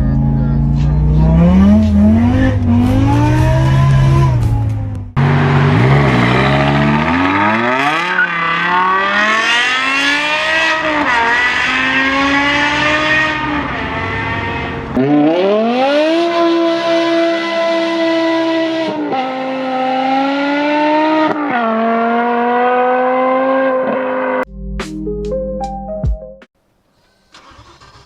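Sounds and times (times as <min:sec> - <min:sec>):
engine revving hard: 0:01.0 - 0:24.4.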